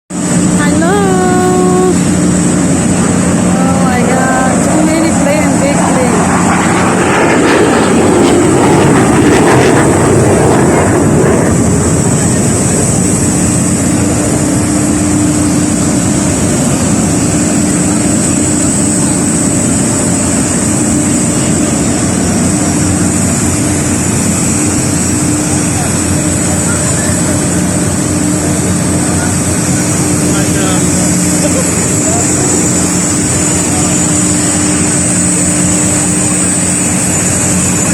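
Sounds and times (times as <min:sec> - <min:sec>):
aircraft engine drone: 0:00.1 - 0:37.9.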